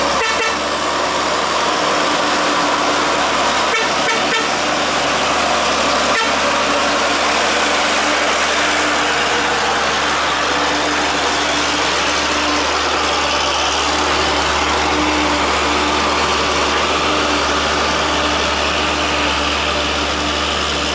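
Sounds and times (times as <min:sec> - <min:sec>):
heavy truck running: 0:00.0 - 0:20.9.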